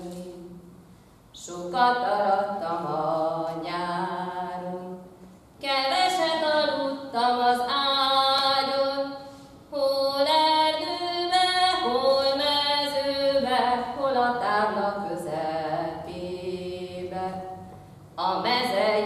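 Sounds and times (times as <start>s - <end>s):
woman singing unaccompanied: 1.4s - 17.6s, 18.2s - 19.0s.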